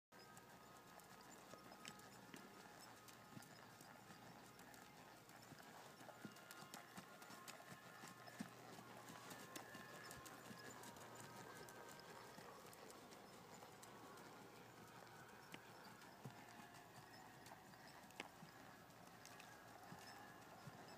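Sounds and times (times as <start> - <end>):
horse hoofbeats on sand: 0.2 - 20.9.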